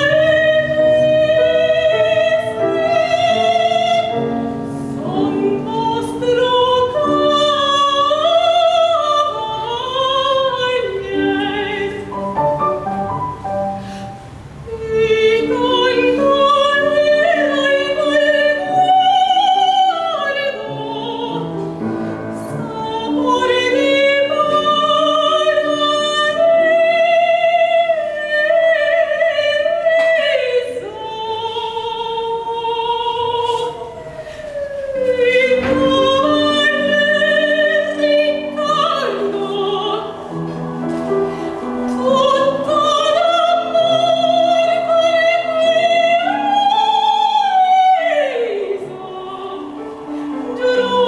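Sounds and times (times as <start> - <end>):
operatic soprano singing: 0.0 - 51.0
piano accompaniment: 0.0 - 51.0.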